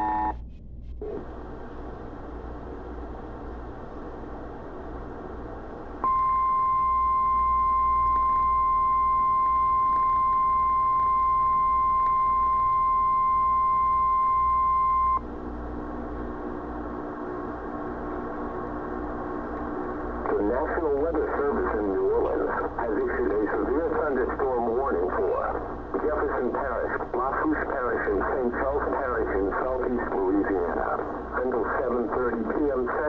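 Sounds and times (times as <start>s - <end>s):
tape hiss and hum: 0.0s - 33.0s.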